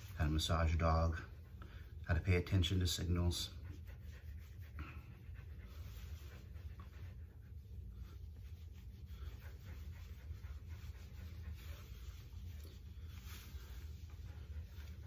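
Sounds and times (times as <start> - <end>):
brush strokes through dog fur: 0.0 - 15.0.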